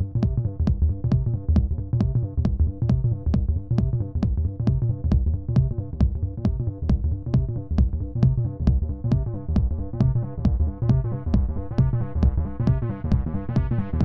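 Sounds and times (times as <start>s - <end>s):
electronic music with driving beat: 0.0s - 14.0s.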